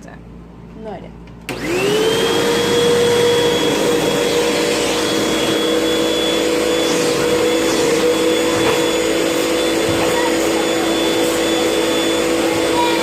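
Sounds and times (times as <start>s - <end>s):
vacuum cleaner running: 1.4s - 13.0s.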